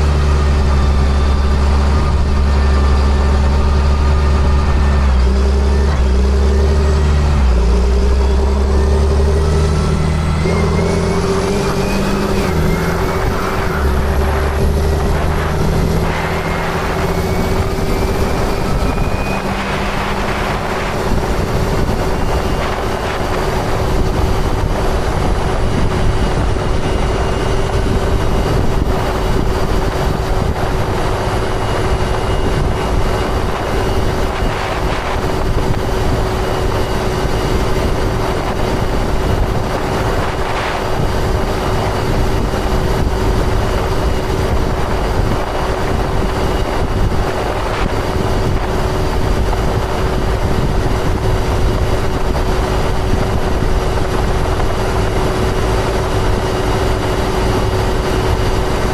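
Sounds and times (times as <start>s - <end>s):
sprayer engine drone: 0.0s - 58.9s.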